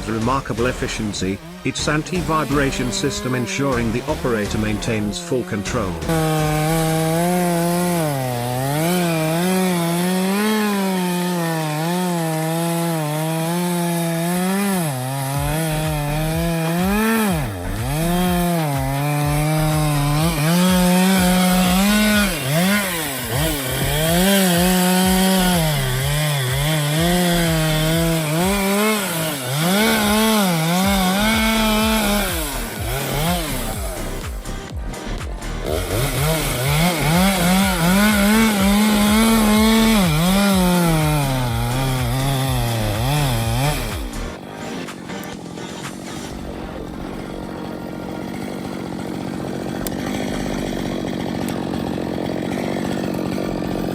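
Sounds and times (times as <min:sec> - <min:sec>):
chainsaw cutting tree trunk: 0:00.0 - 0:53.9.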